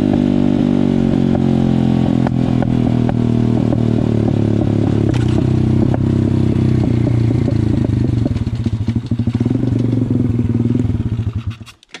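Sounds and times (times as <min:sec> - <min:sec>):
motorbike engine running hard: 0:00.0 - 0:11.8.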